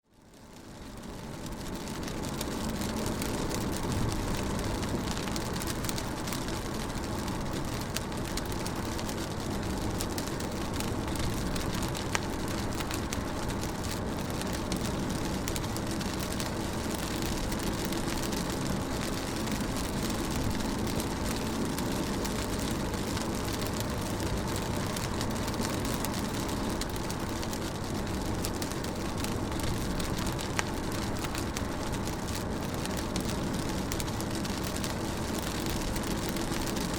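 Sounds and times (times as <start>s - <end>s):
rain drumming on car roof: 0.2s - 36.9s
car hum and tyres on wet road: 0.3s - 36.9s
sharp raindrop ticks: 0.3s - 36.9s.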